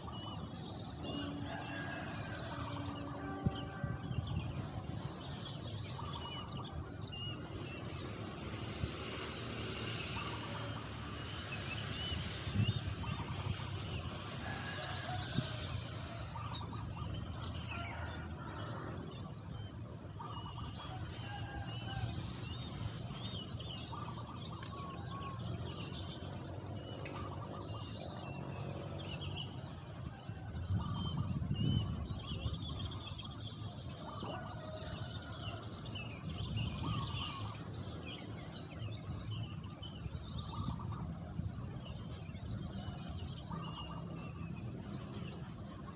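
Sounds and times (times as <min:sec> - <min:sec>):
birds singing and chirping: 0:00.0 - 0:45.9.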